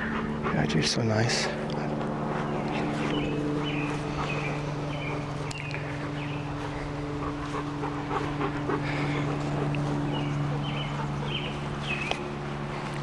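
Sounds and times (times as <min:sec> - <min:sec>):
dogs yelping: 0:00.0 - 0:12.7
steady low hum: 0:00.0 - 0:13.0.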